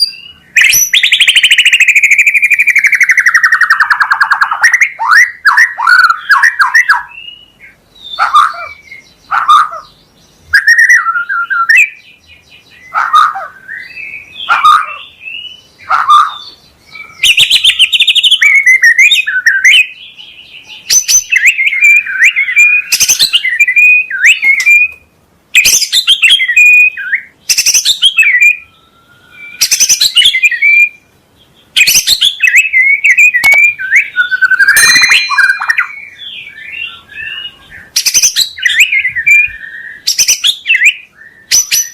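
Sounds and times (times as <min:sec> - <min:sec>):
songbird singing varied phrases: 0:00.0 - 0:41.9.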